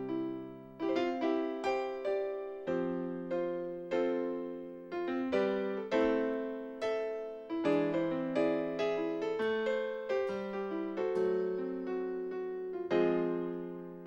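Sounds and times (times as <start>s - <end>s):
keyboard playing chords: 0.0s - 14.0s.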